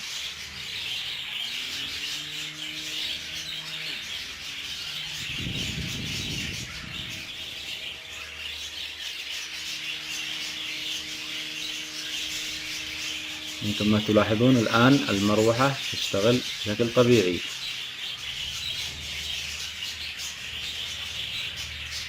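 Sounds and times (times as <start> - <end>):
small fan motor humming: 0.0 - 22.0.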